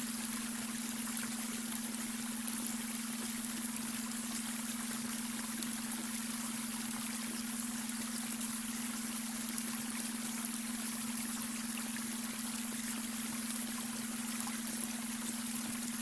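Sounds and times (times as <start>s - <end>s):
babbling brook: 0.0s - 16.0s.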